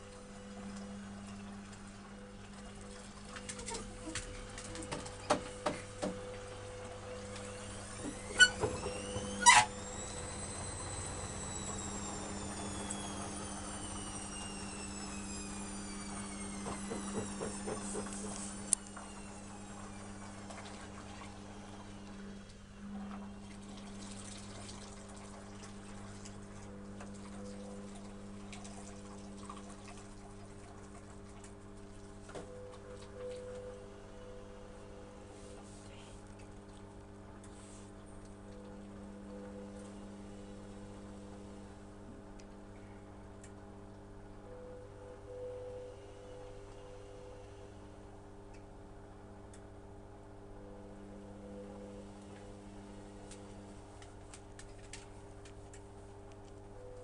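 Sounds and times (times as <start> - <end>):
steady low hum: 0.0 - 57.0
washing machine motor whine: 0.0 - 57.0.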